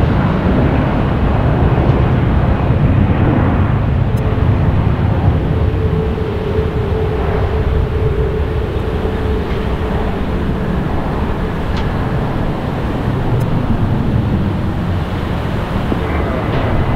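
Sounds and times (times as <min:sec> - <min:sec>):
jet engines rumbling: 0:00.0 - 0:16.9
steady engine whine: 0:00.0 - 0:16.9.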